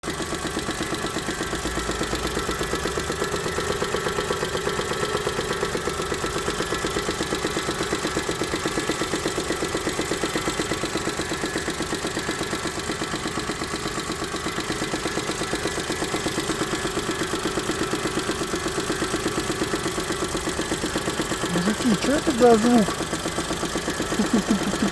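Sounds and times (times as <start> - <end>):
engine idling with rhythmic knock: 0.0 - 24.9.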